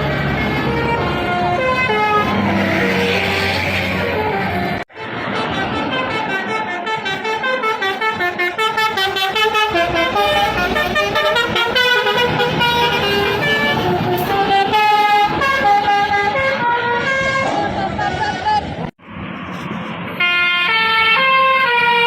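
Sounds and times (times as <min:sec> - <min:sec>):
bus multi-tone musical horn: 0:00.0 - 0:18.9, 0:20.1 - 0:22.0.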